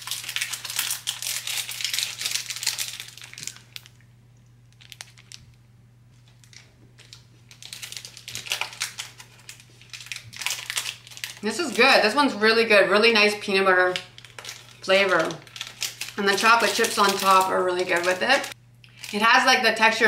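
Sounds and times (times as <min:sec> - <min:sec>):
foil wrapper crinkling: 0:00.0 - 0:04.1, 0:04.7 - 0:05.6, 0:06.2 - 0:12.3, 0:13.8 - 0:19.3.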